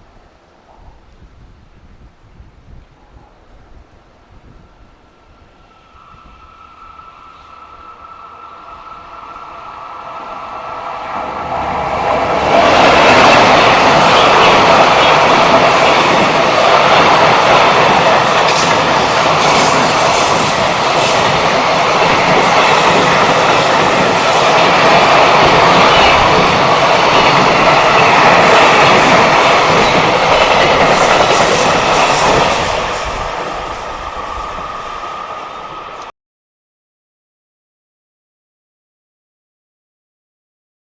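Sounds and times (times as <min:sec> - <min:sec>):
freight train wheels rolling on rails: 0:02.8 - 0:36.1.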